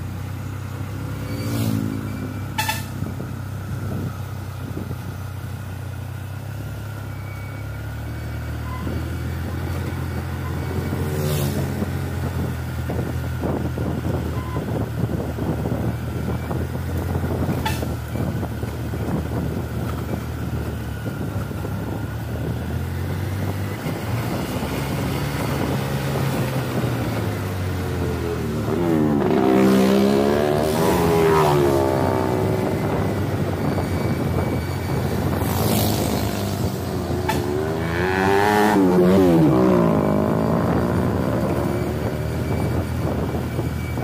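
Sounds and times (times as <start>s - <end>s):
diesel truck engine droning: 2.0s - 44.0s.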